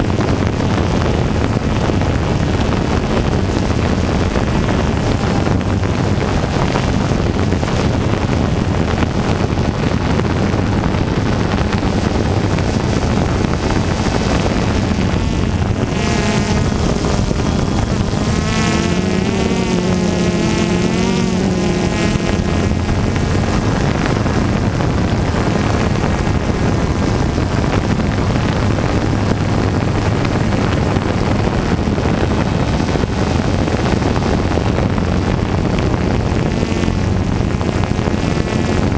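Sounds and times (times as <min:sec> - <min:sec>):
drone propellers buzzing: 0:00.0 - 0:38.9
wind on microphone: 0:00.0 - 0:38.9.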